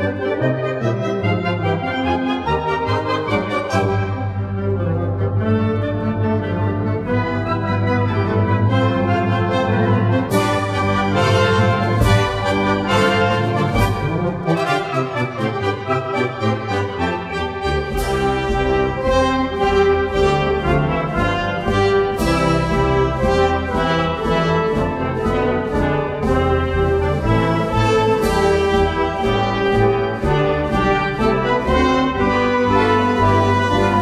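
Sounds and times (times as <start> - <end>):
orchestral music with brass: 0.0 - 34.0.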